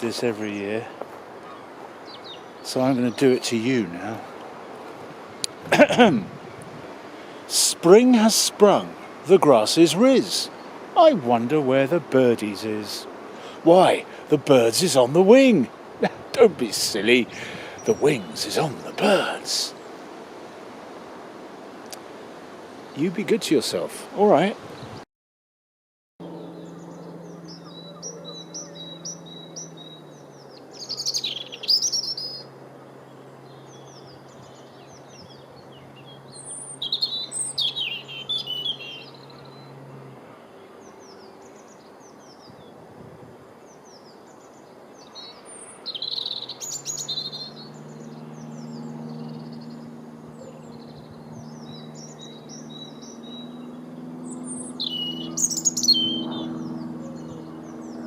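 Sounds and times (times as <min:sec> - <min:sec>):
small birds singing: 0:00.0 - 0:25.0, 0:26.2 - 0:58.0.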